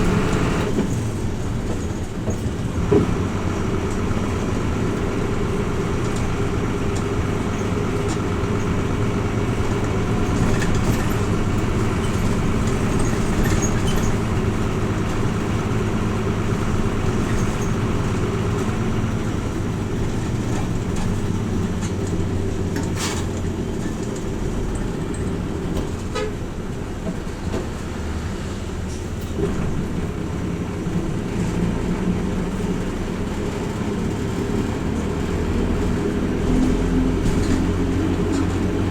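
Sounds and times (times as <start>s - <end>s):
bus engine and road hum: 0.0s - 38.9s.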